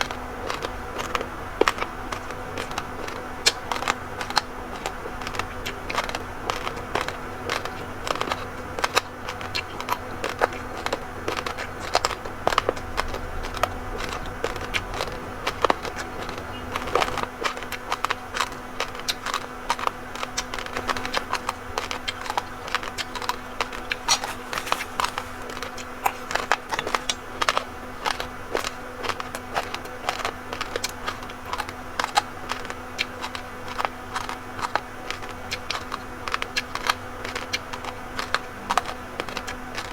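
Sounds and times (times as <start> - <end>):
faint steady hum: 0.0 - 39.9
raw rice grains being chewed: 0.0 - 39.9.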